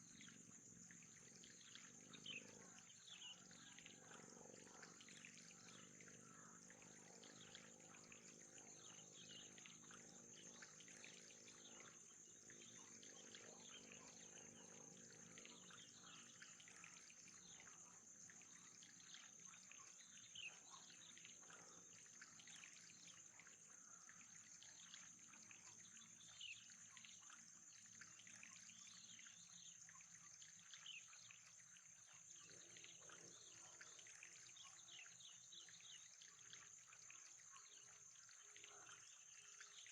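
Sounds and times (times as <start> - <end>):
faint trickling water: 0.0 - 39.9.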